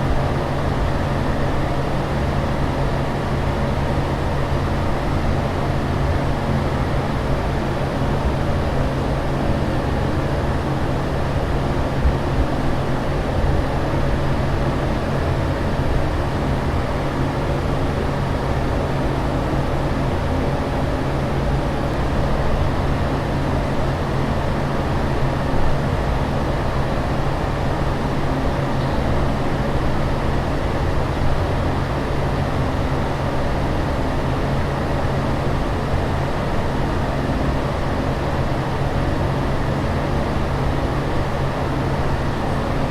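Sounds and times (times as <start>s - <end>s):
airliner cabin engine drone: 0.0s - 42.9s
low constant hum: 0.0s - 42.9s.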